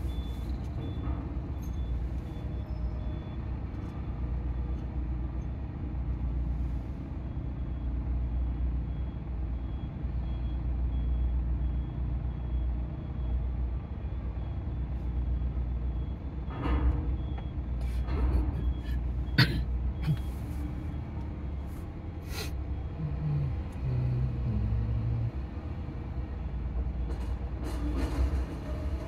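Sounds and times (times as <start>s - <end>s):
diesel engines rumbling: 0.0s - 29.0s.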